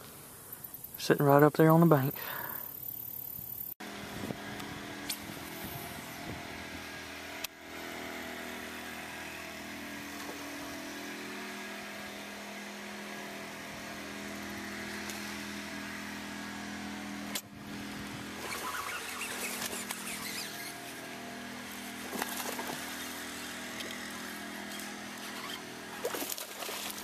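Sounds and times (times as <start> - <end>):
boat motor humming: 2.2 - 27.0.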